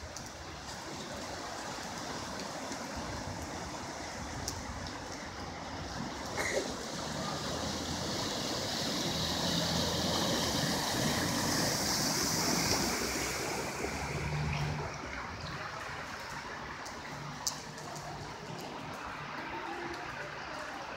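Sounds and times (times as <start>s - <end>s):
rushing floodwater: 0.0s - 20.9s.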